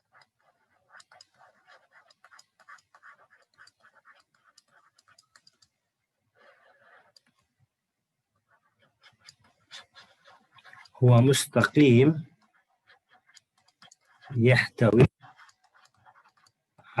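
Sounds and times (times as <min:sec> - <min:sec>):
pen scratching handwriting: 0:00.0 - 0:07.6, 0:08.4 - 0:16.9.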